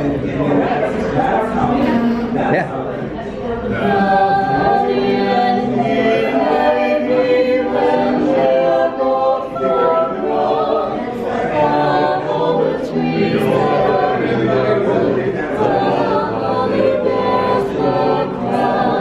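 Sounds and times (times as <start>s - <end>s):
vocal quartet singing a cappella: 0.0s - 19.0s.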